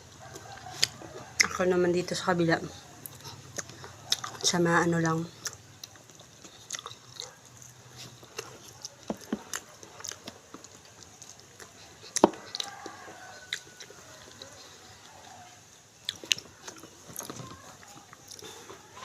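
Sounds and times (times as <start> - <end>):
crunchy chewing and bites: 3.0 - 4.6, 5.3 - 19.0.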